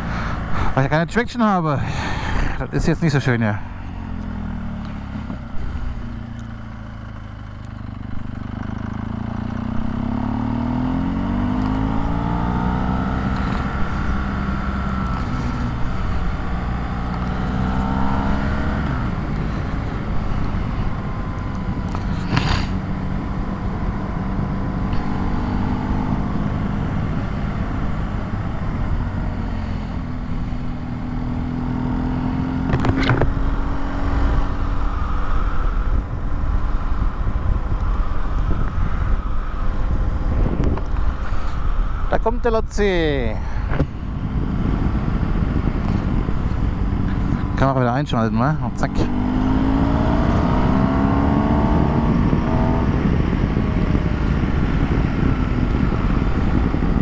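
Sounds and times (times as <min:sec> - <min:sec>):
motorcycle engine revving: 0:03.6 - 0:57.0
wind noise: 0:09.4 - 0:57.0.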